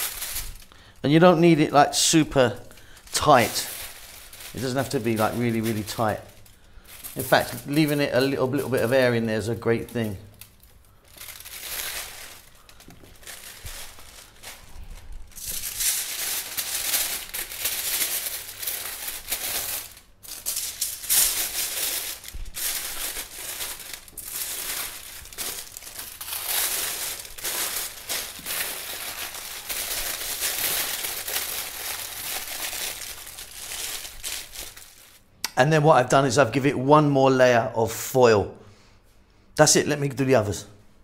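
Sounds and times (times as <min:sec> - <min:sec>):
aluminium foil crinkling: 0:00.0 - 0:35.3.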